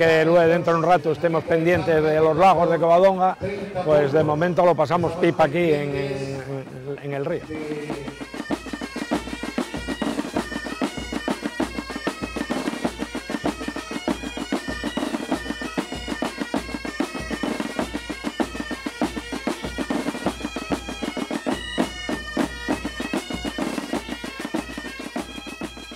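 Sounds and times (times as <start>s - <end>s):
bagpipe melody: 2.5s - 25.9s
steady drum beat: 4.9s - 25.9s.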